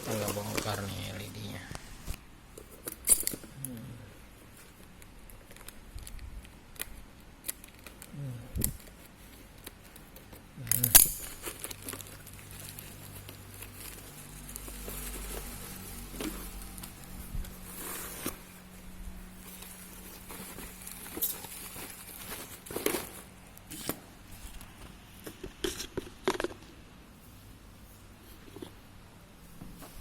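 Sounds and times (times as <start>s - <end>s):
plastic wrap rustling and crinkling: 0.0s - 3.4s, 4.3s - 30.0s.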